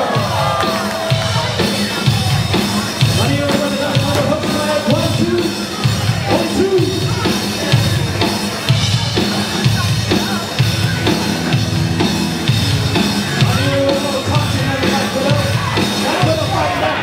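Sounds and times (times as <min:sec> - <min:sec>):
music with drums and bass: 0:00.0 - 0:17.0.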